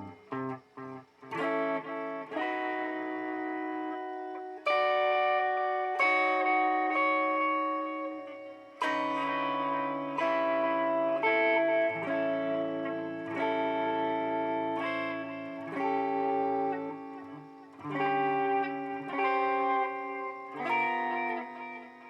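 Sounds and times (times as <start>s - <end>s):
electric guitar chords with delay: 0.0s - 22.0s.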